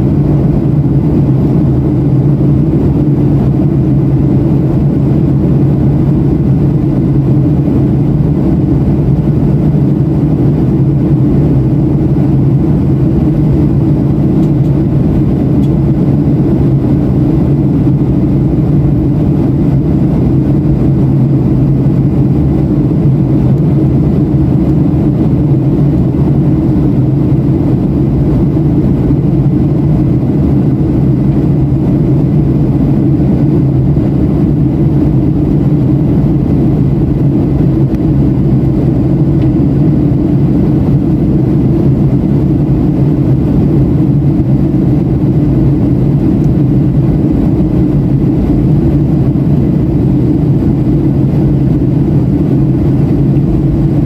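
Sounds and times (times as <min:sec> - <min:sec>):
aircraft cabin drone: 0:00.0 - 0:54.0
constant low hum: 0:00.0 - 0:54.0.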